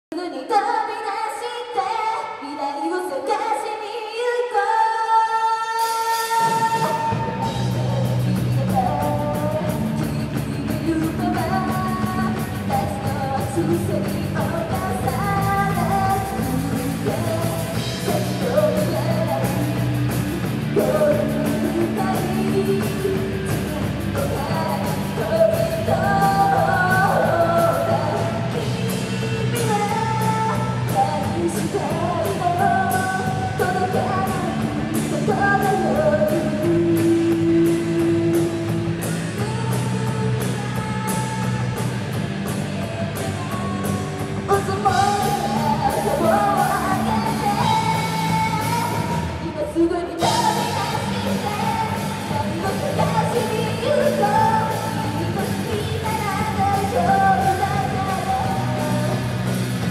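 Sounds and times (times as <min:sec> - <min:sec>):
woman singing lead vocal: 0:00.1 - 0:59.9
live rock band: 0:05.7 - 0:59.9.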